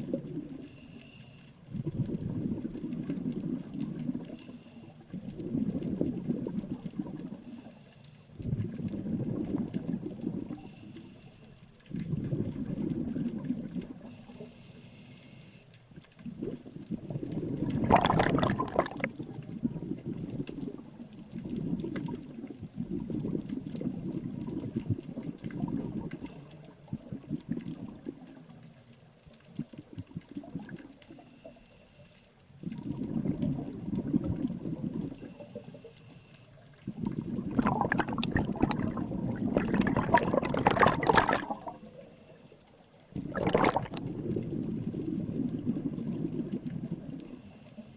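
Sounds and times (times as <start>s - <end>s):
underwater bubbles from regulator: 0.0s - 0.8s, 1.7s - 7.7s, 8.4s - 10.8s, 11.8s - 14.2s, 16.0s - 31.3s, 32.6s - 35.8s, 36.8s - 41.9s, 43.0s - 47.5s.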